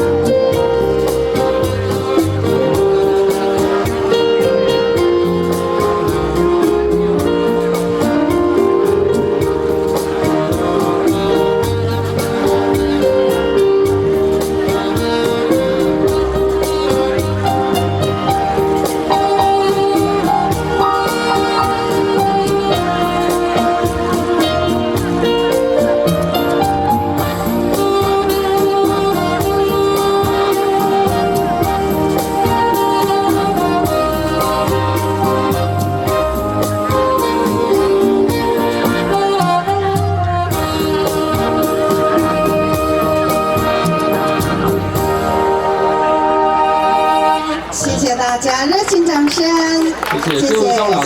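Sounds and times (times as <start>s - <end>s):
live band playing: 0.0s - 51.0s.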